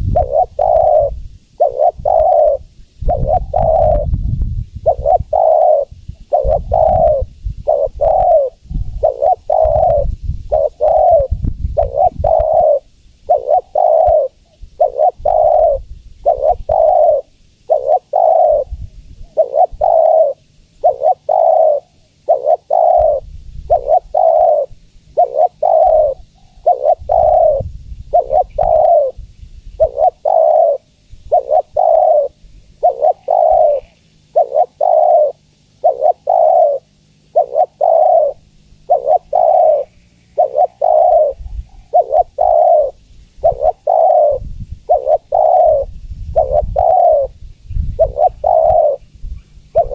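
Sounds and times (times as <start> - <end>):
dove cooing: 0.0 - 4.2, 4.8 - 49.9.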